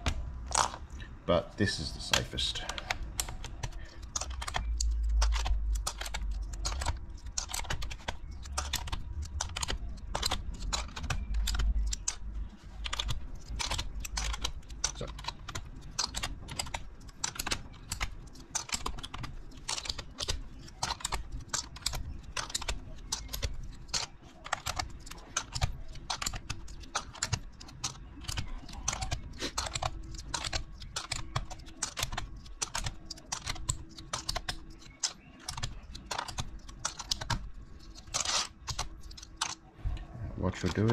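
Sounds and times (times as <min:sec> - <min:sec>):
plastic keycaps clattering: 0:02.0 - 0:39.7.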